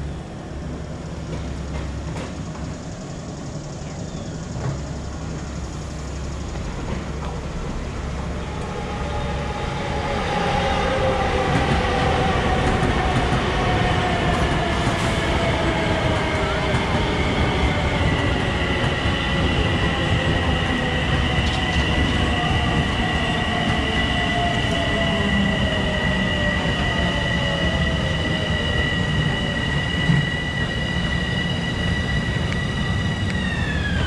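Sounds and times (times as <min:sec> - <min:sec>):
electric train approaching: 0:00.0 - 0:34.0.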